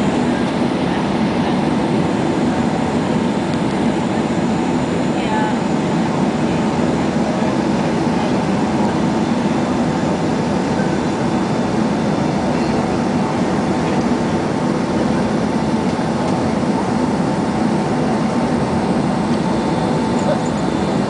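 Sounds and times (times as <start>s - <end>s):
airliner engine and airflow noise: 0.0s - 21.0s.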